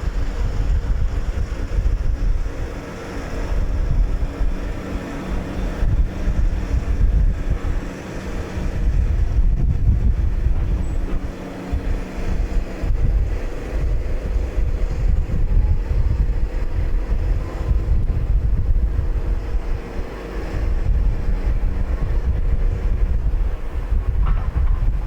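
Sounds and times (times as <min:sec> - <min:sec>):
faint engine drone: 0:00.0 - 0:25.0
wind buffeting microphone: 0:00.0 - 0:25.0.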